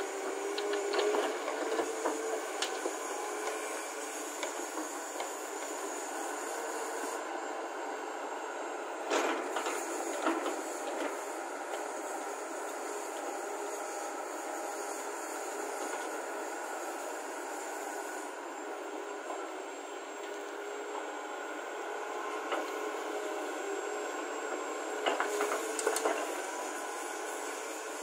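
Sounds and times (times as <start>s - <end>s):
excavator running: 0.0s - 28.0s.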